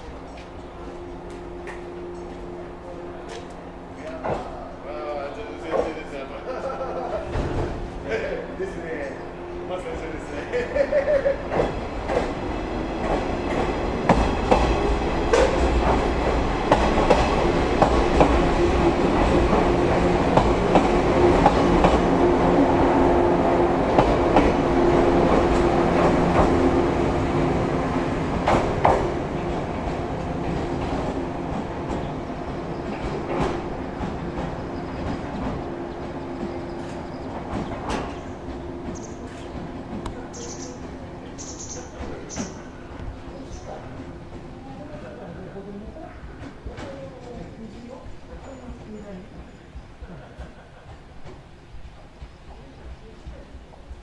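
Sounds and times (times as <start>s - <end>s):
electric train running: 0.0s - 45.9s.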